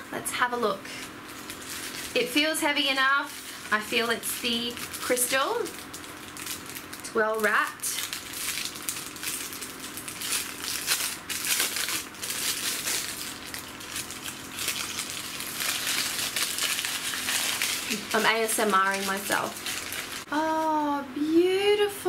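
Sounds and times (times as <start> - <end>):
wrapping paper crinkling: 0.9 - 20.3.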